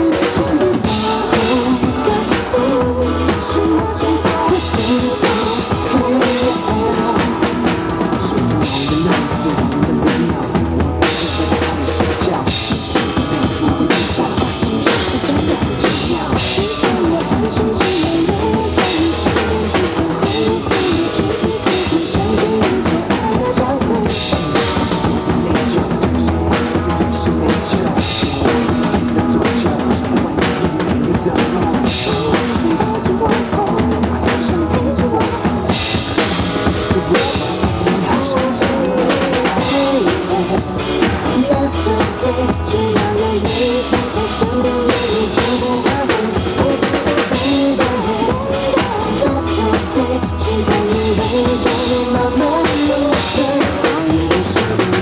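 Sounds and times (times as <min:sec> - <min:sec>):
drum kit playing a beat: 0:00.0 - 0:55.0
recorded song: 0:00.0 - 0:55.0.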